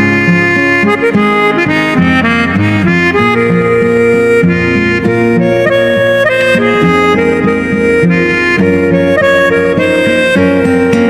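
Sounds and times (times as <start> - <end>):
plucked bass line: 0.0 - 11.0
reedy chords: 0.0 - 11.0.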